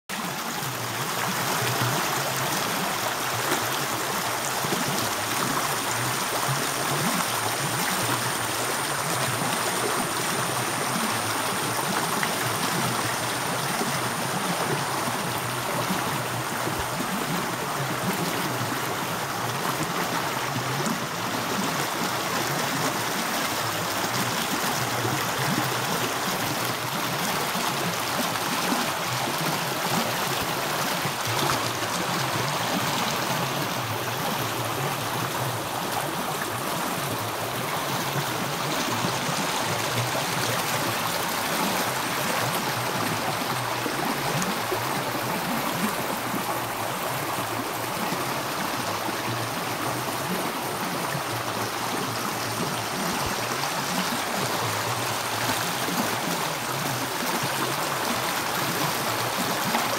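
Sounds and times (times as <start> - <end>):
stream rushing over stones: 0.1 - 59.9.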